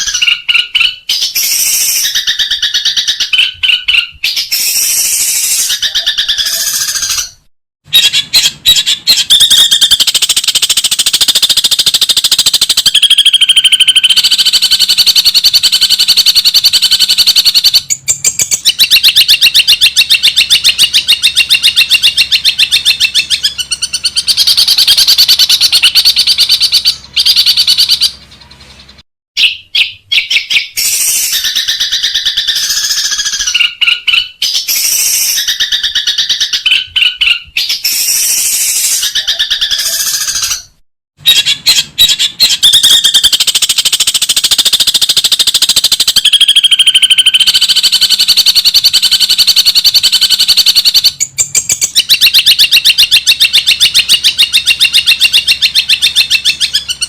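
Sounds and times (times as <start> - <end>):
bird singing harsh chattering: 0.0 - 57.0.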